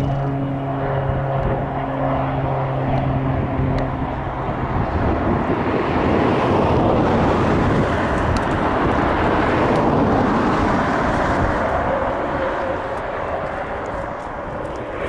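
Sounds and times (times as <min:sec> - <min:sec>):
turboprop engines running: 0:00.0 - 0:15.0
wind on microphone: 0:00.0 - 0:15.0.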